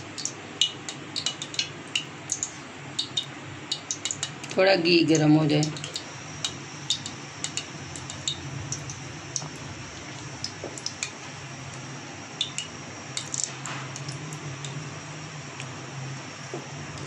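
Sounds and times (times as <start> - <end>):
ghee popping and crackling: 0.0 - 14.9
steady low hum: 0.0 - 17.0.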